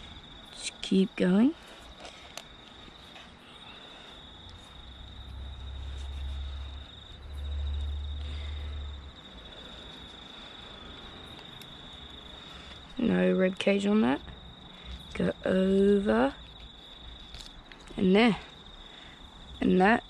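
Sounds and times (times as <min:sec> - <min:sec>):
cricket trilling: 0:00.0 - 0:20.0.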